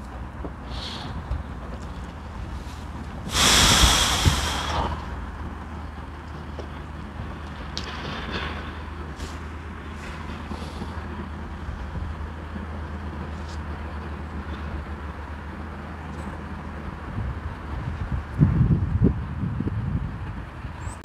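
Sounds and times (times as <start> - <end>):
low outdoor background rumble: 0.0 - 21.0.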